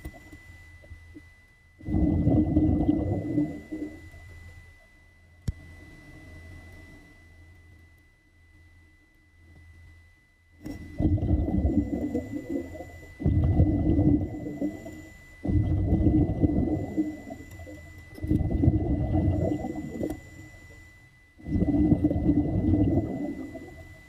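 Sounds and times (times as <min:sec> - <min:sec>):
faint steady high tone: 0:00.0 - 0:24.0.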